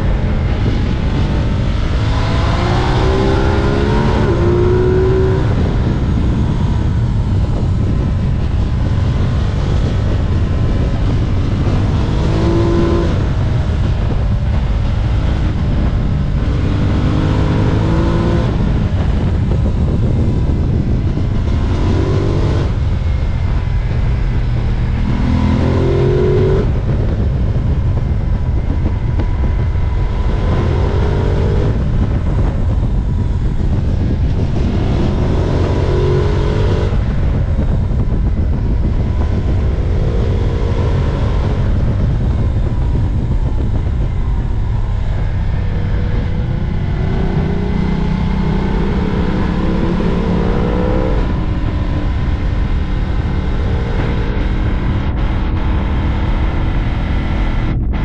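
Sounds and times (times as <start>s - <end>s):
motorcycle engine accelerating: 0.0s - 58.0s
wind on microphone: 0.0s - 58.0s.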